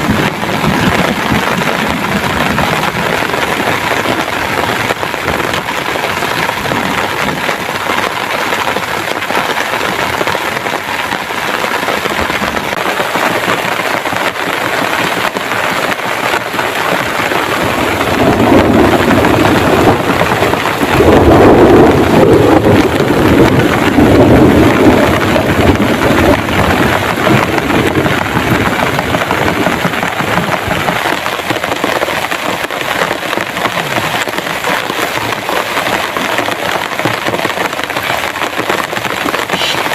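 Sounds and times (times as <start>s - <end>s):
heavy rain falling: 0.0s - 39.9s
thunder rumbling: 0.0s - 39.9s.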